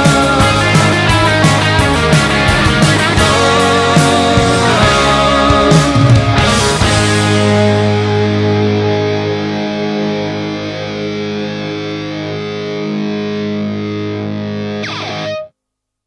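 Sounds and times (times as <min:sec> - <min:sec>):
distorted electric guitar chord: 0:00.0 - 0:15.5
guitar slide: 0:00.0 - 0:15.5.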